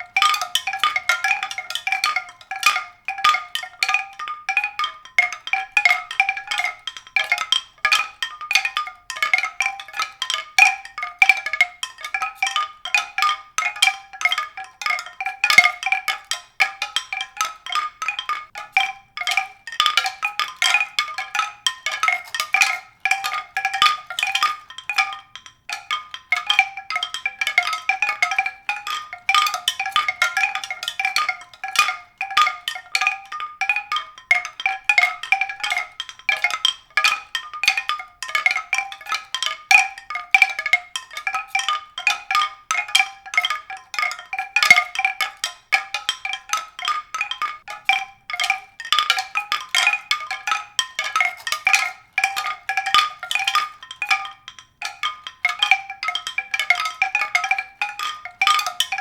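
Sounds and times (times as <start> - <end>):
pitched mallet percussion: 0.0 - 59.0.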